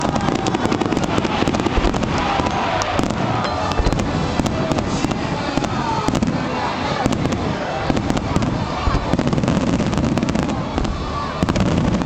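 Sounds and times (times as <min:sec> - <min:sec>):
deep fireworks booms: 0:00.0 - 0:12.0
fireworks crackling and banging: 0:00.0 - 0:12.0.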